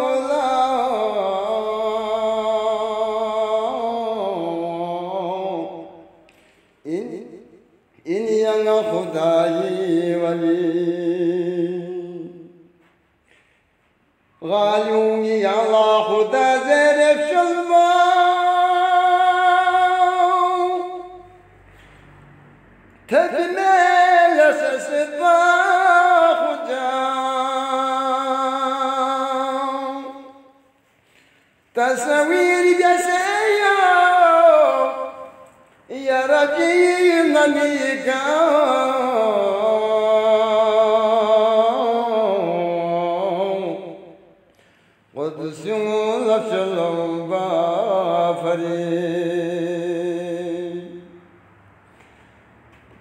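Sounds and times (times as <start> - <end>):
man singing unaccompanied: 0.0 - 6.2, 6.8 - 12.6, 14.4 - 21.4, 23.1 - 30.6, 31.7 - 44.3, 45.1 - 51.2
solo voice chanting: 0.0 - 12.8, 14.3 - 21.7, 23.0 - 30.8, 31.7 - 51.2.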